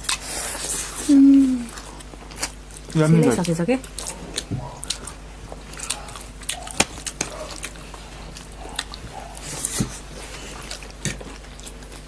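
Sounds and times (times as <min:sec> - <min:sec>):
chewing and mouth smacks: 0:01.7 - 0:12.0.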